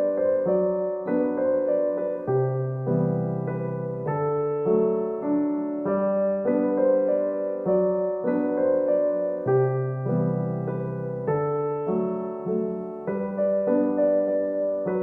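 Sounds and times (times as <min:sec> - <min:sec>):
gentle piano tune: 0:00.0 - 0:15.0.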